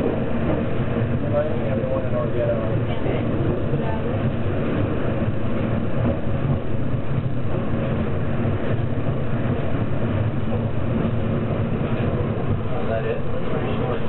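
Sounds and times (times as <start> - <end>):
rail car rumbling on track: 0.0 - 14.0.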